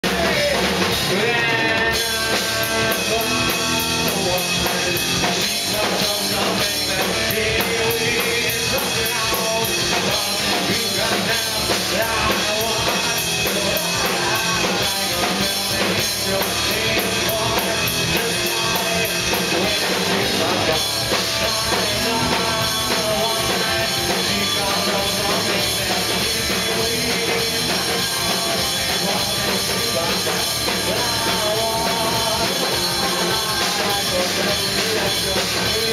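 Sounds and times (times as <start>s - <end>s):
drum kit: 0.0s - 35.9s
electric guitar: 0.0s - 35.9s
fast cymbal beat: 0.0s - 35.9s
man singing into a microphone: 0.0s - 35.9s.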